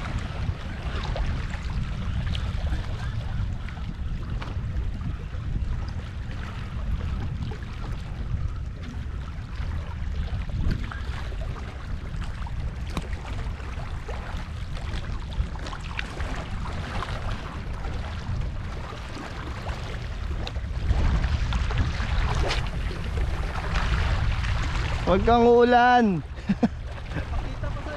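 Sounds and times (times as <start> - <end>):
sea waves: 0.0 - 27.9
wind buffeting microphone: 0.0 - 27.9.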